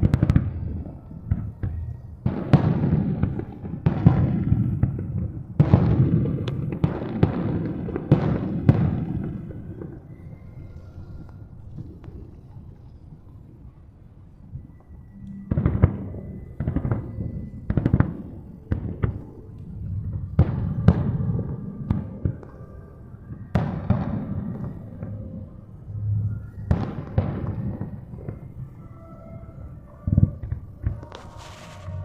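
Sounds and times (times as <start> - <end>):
fireworks booms with echo: 0.0 - 10.5, 15.4 - 28.8, 30.0 - 32.0.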